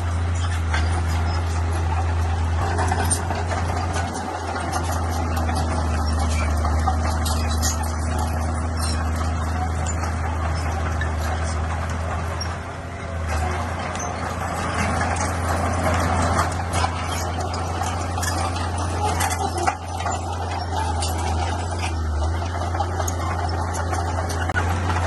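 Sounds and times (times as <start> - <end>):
bulldozer diesel engine running: 0.0 - 25.0
metallic clanks and rattles: 0.0 - 25.0.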